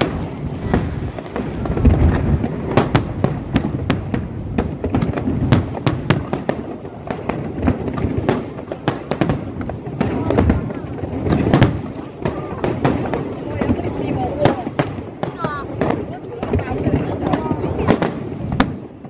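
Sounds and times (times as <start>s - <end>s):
fireworks booming: 0.0s - 19.0s
fireworks cracks: 0.0s - 19.0s.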